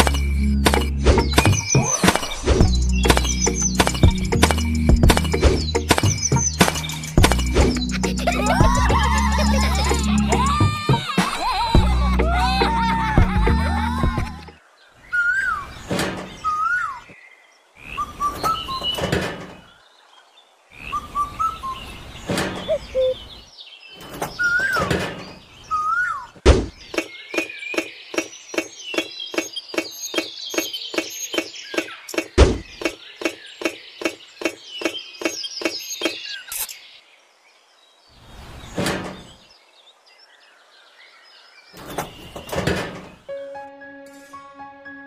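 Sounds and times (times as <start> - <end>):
bird chirps: 0.0 - 10.6, 14.5 - 19.9, 20.7 - 37.1, 38.0 - 43.4.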